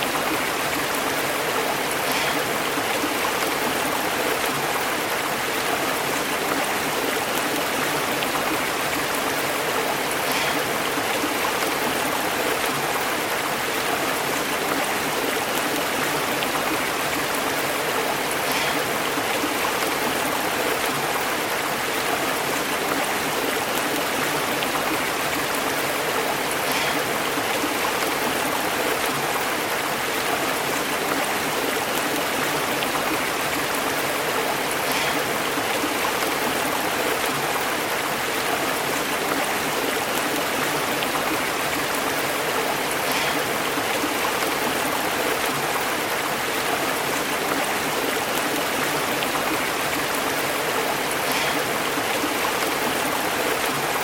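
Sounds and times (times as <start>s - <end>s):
stream burbling over rocks: 0.0s - 54.0s.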